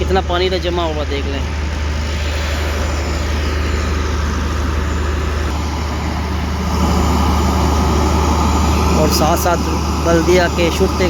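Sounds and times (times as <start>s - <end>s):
large engine humming: 0.0s - 11.0s
outdoor noise: 0.0s - 11.0s.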